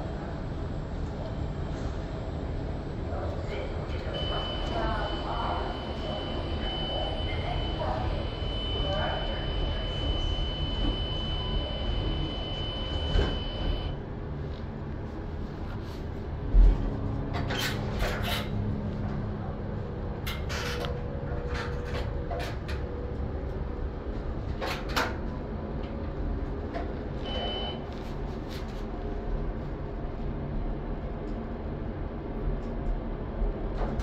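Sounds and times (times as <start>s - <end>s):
train car rumble: 0.0s - 32.4s.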